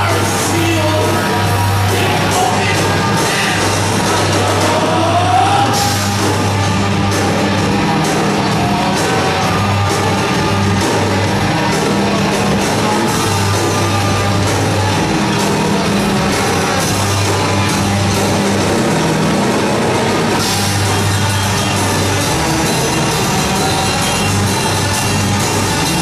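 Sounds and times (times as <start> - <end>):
cymbals: 0.0 - 26.0
distorted electric guitars and bass: 0.0 - 26.0
drums: 0.0 - 26.0.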